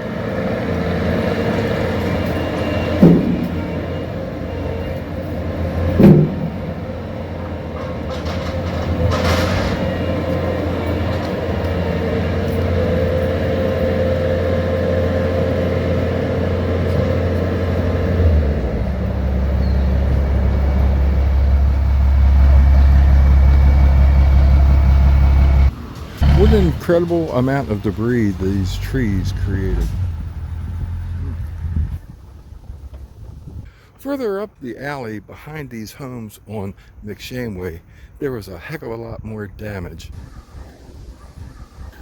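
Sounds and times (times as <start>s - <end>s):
motor engine humming: 0.0s - 33.7s.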